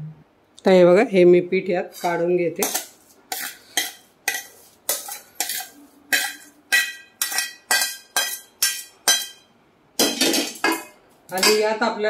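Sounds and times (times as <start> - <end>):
steel spoon scraping a metal pan: 1.8 - 11.7.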